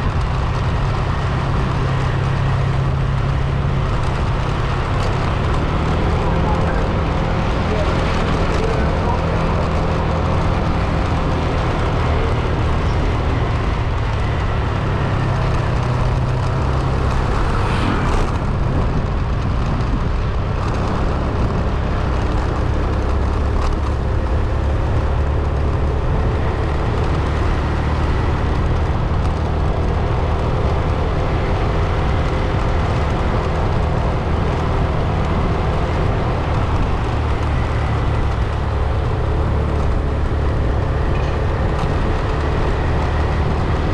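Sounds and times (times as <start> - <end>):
car engine hum: 0.0 - 43.9
road and tyre noise: 0.0 - 43.9.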